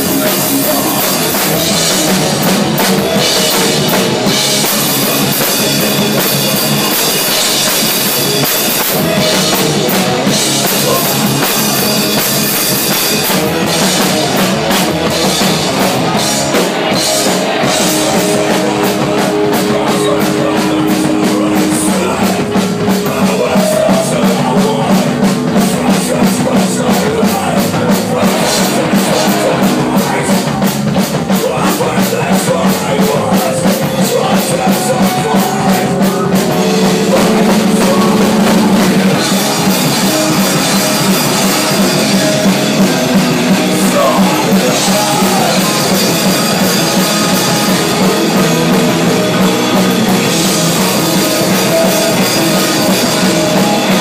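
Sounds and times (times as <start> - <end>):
bass guitar: 0.0 - 54.0
drum kit: 0.0 - 54.0.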